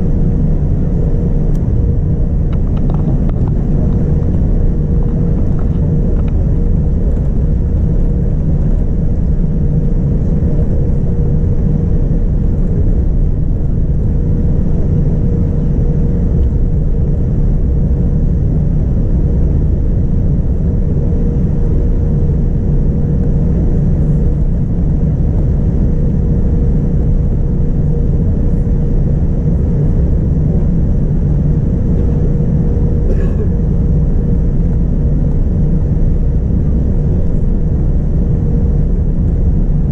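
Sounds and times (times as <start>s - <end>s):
airliner cabin rumble: 0.0s - 39.9s
mid-pitched hum: 0.0s - 39.9s.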